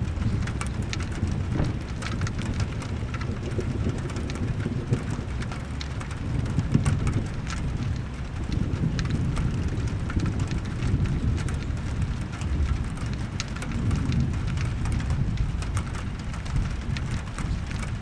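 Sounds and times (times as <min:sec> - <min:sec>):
low thunder rumble: 0:00.0 - 0:18.0
rain drops hitting: 0:00.0 - 0:18.0.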